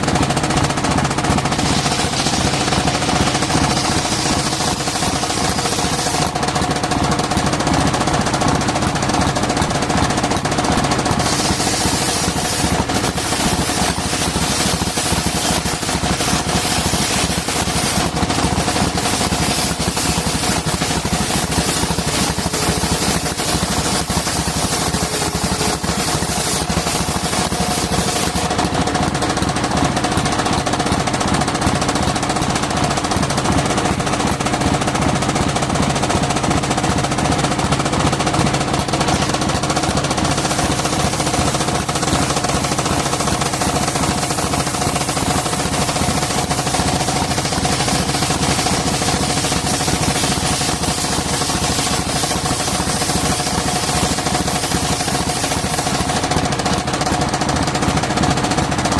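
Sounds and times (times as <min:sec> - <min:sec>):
engine driving circular saw: 0:00.0 - 0:58.9.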